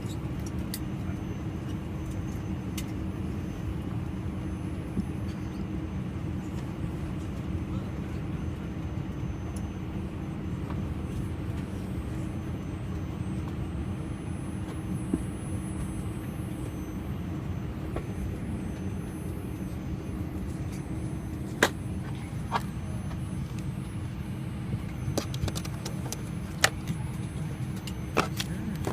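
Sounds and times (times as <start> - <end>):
aircraft cabin hum: 0.0 - 28.9
faint steady tones: 0.0 - 28.9.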